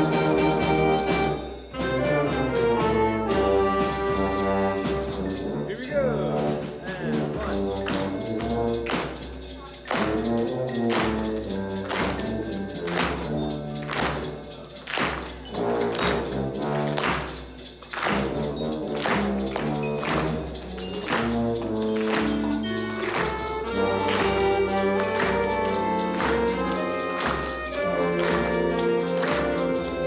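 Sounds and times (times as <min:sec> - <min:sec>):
saxophones and brass: 0:00.0 - 0:30.0.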